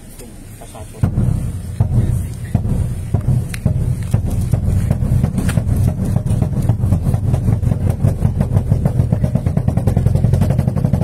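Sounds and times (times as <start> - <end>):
engine running with rapid throb: 1.0 - 11.0.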